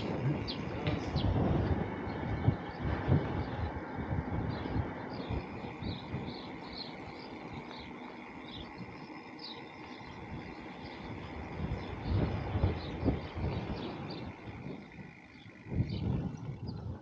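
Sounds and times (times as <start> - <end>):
bird chirping: 0.0 - 3.8, 4.4 - 17.0
wind rumble on microphone: 0.0 - 17.0.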